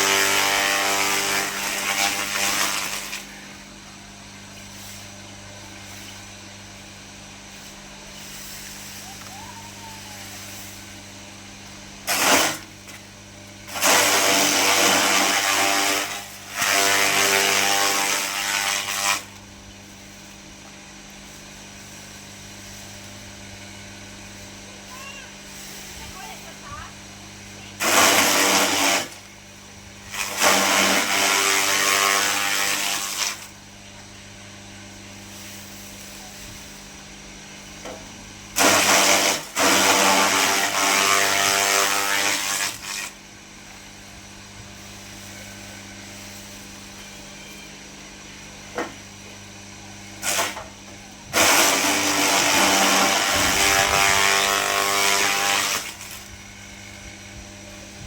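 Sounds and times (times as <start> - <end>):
chaff cutter humming: 0.0 - 58.0.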